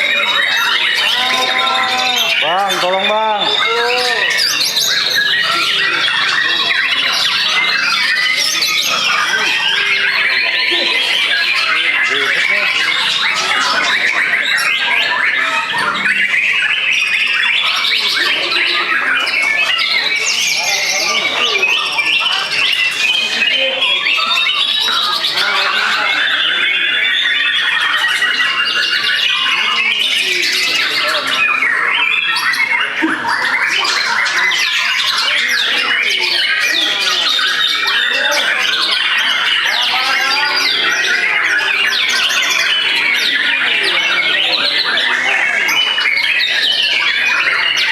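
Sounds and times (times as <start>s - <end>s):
songbirds whistling and trilling: 0.0s - 47.9s.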